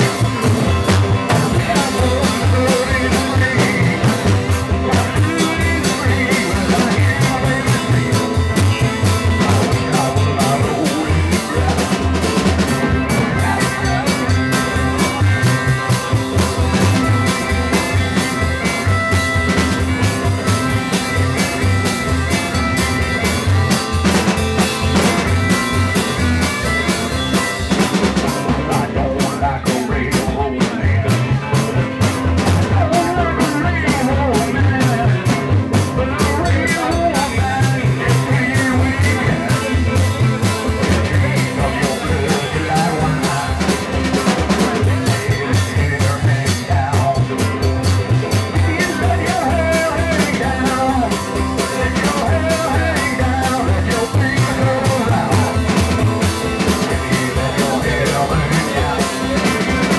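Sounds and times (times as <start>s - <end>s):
drum kit beat: 0.0s - 59.9s
electric guitar: 0.0s - 59.9s
upright bass: 0.0s - 59.9s.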